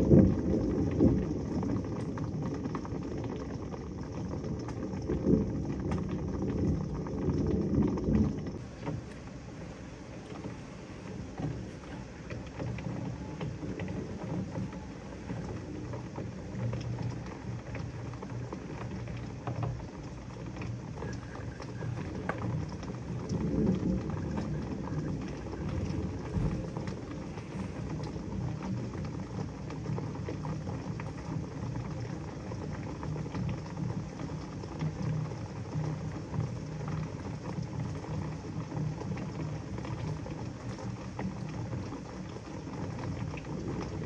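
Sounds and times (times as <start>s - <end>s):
thunder rumble: 0.0s - 35.5s
heavy rain falling: 0.0s - 44.0s.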